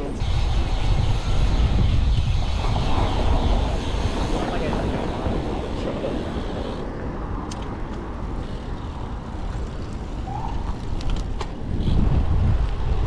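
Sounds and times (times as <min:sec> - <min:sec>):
street traffic: 0:00.0 - 0:12.9
low wind rumble: 0:00.0 - 0:13.0.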